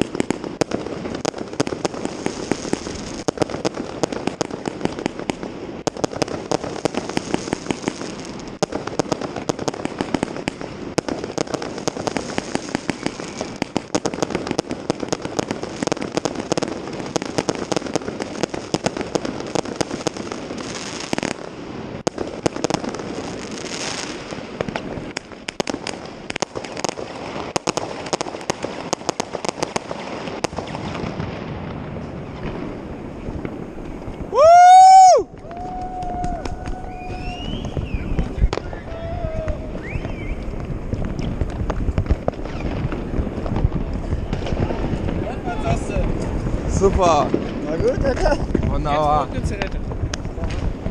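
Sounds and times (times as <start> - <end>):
fireworks and firecrackers crackling: 0.0 - 50.9.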